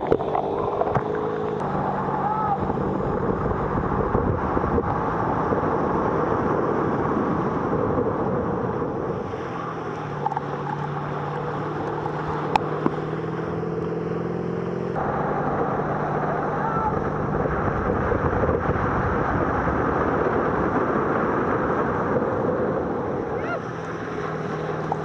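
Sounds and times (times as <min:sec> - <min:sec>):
boat engine drone: 0:00.0 - 0:25.0
water rushing and spraying: 0:00.0 - 0:25.0
wind buffeting microphone: 0:00.0 - 0:25.0.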